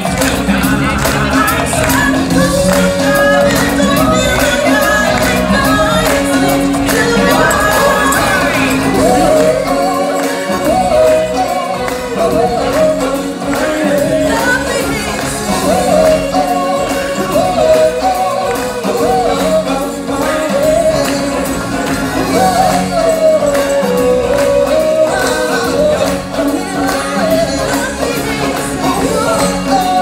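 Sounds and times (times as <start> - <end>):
backing accompaniment: 0.0 - 30.0
percussion: 0.0 - 30.0.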